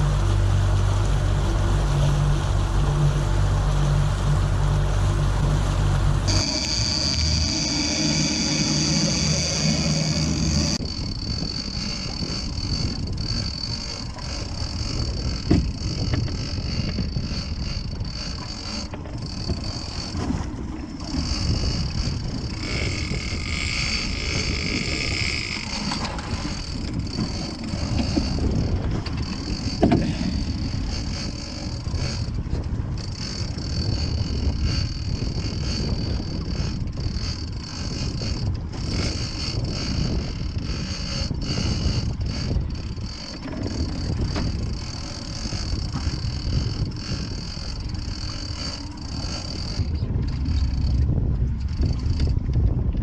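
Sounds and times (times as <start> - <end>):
steady high whine: 0.0 - 52.4
boat motor running: 0.0 - 53.0
water and wind noise: 0.0 - 53.0.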